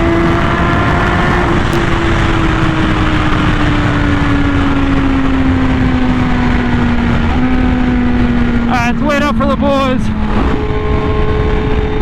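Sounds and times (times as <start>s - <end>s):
heavy wind rush: 0.0s - 12.0s
motorcycle engine at high speed: 0.0s - 12.0s.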